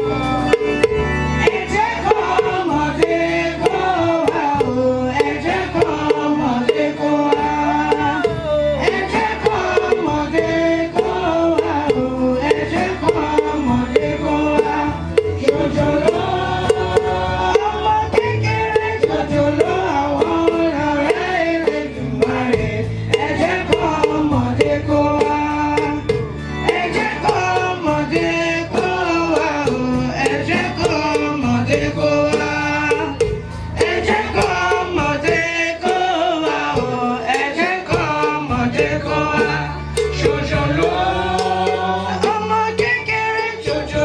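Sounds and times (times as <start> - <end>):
choir singing a hymn: 0.0 - 44.0
hand drum beat: 0.0 - 44.0.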